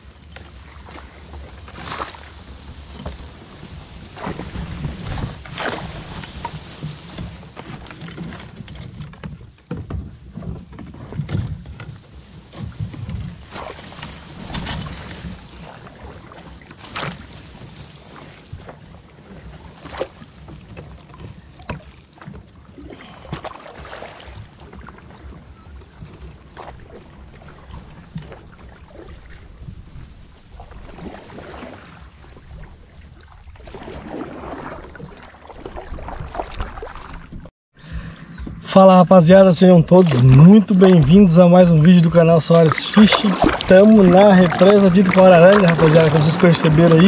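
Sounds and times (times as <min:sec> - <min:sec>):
grass brushing along hull: 0:00.0 - 0:37.5, 0:38.6 - 0:47.0
paddle strokes and splashes: 0:00.0 - 0:37.5, 0:38.2 - 0:47.0.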